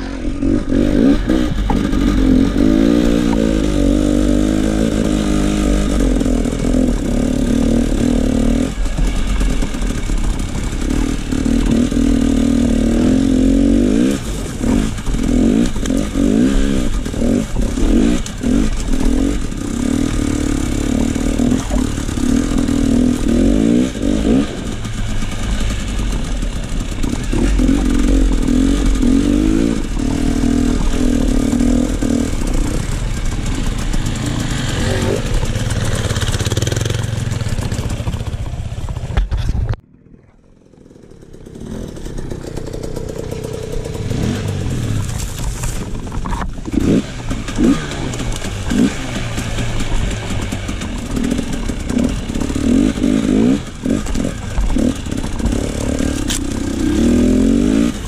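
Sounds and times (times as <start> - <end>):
dirt bike engine revving: 0.0 - 39.1, 40.6 - 58.0.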